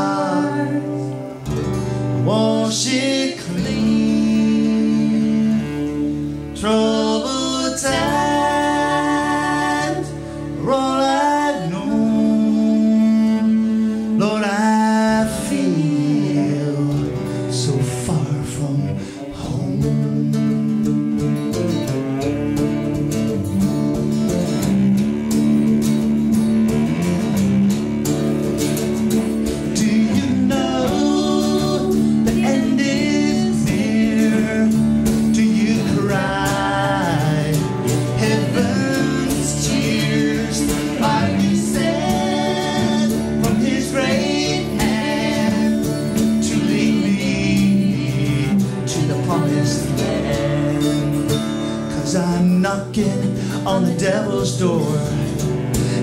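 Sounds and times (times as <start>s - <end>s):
person singing: 0.0s - 1.5s, 2.2s - 23.0s, 28.8s - 56.0s
cello long low notes: 0.0s - 53.4s
strummed acoustic guitar: 0.0s - 56.0s.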